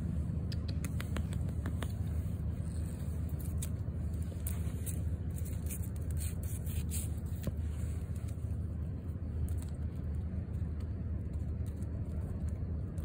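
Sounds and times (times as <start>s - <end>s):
low background rumble: 0.0s - 13.0s
twig scratching on concrete: 0.6s - 13.0s.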